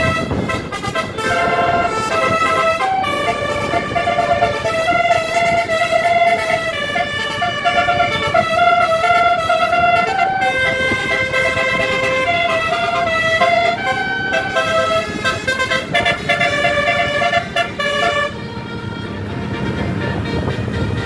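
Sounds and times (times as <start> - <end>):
engine and road rumble: 0.0 - 21.0
multi-tone air horn melody: 0.0 - 21.0.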